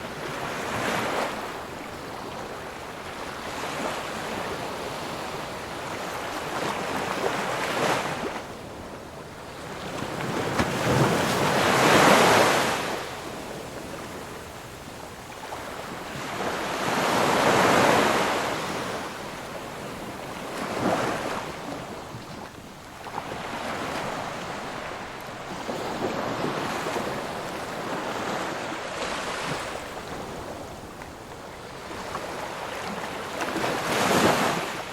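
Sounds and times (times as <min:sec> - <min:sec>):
ocean waves breaking on shore: 0:00.0 - 0:34.9.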